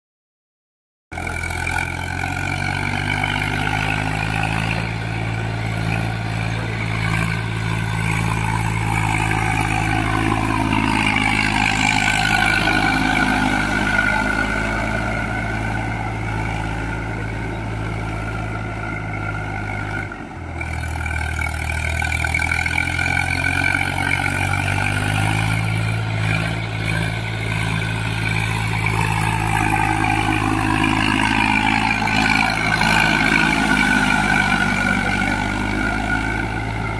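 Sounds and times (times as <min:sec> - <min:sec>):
tractor diesel engine under load: 0:01.1 - 0:36.9.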